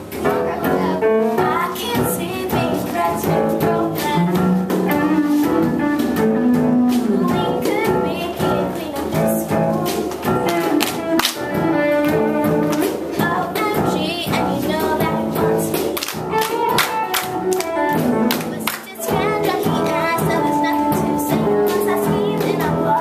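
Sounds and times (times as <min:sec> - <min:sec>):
upbeat musical backing track: 0:00.0 - 0:23.0
girls singing: 0:01.3 - 0:05.4, 0:07.0 - 0:23.0.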